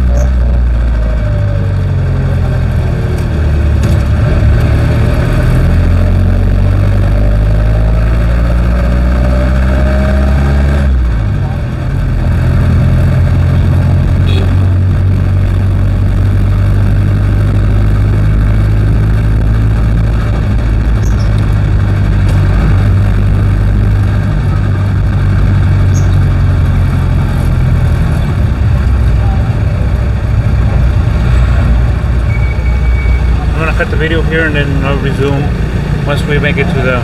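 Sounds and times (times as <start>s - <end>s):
diesel engine running: 0.0s - 37.0s
road noise: 0.0s - 37.0s.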